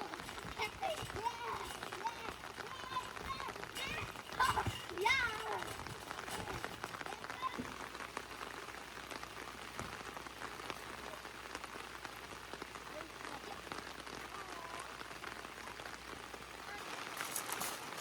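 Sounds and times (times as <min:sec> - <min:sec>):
light rain patter: 0:00.0 - 0:18.0
sharper raindrops: 0:00.0 - 0:18.0.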